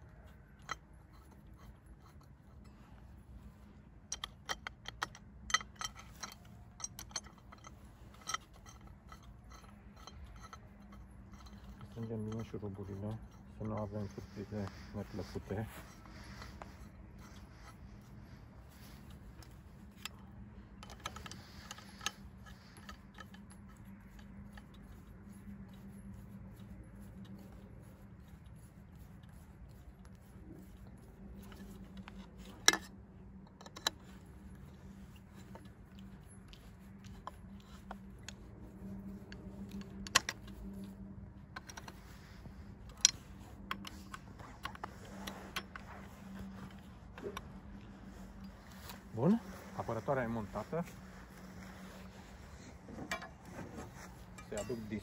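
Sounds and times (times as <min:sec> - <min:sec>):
steady low hum: 0:00.0 - 0:55.0
screwdriver scraping on metal: 0:04.1 - 0:28.3, 0:29.0 - 0:55.0.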